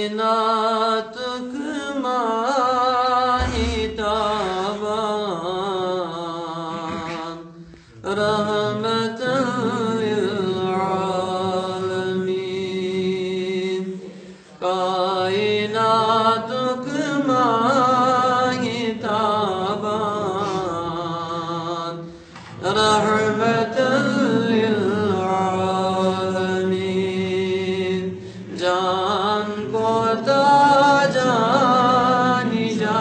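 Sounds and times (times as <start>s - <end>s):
man chanting devotional verse: 0.0s - 33.0s.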